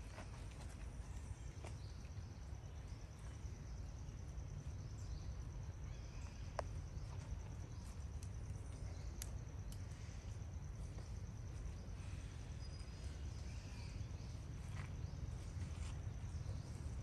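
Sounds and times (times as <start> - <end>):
insect chirring: 1.0 - 17.0.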